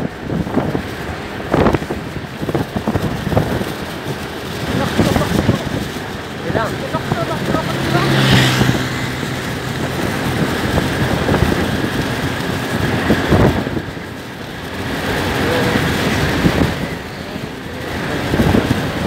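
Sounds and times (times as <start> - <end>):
motorcycle engine running: 0.0 - 19.0
wind on microphone: 0.0 - 19.0.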